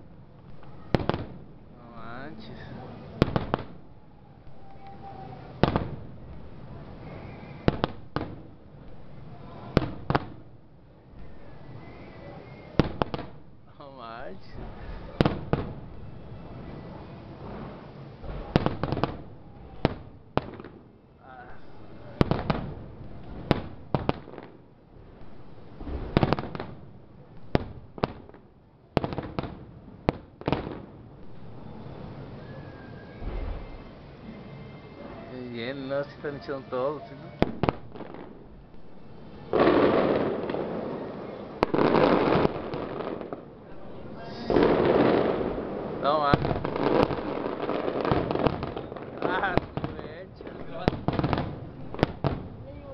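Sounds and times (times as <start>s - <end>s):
fireworks bangs: 0.0s - 52.9s
fireworks crackling: 0.0s - 52.9s.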